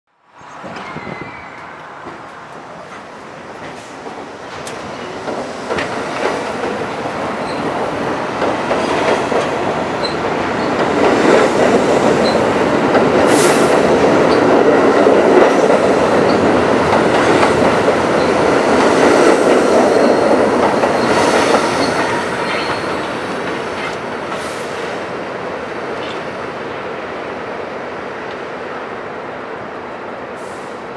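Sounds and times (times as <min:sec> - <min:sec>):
subway train wheels rumbling: 0:00.2 - 0:30.9.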